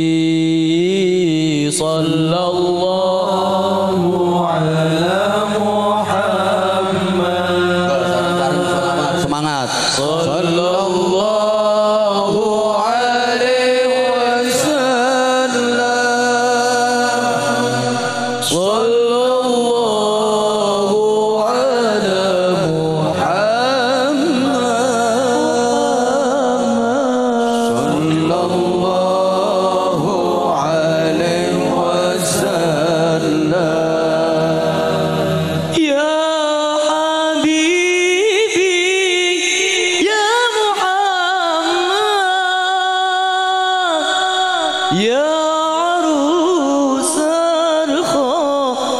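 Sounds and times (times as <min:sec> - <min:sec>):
men singing through microphones: 0:00.0 - 0:48.9.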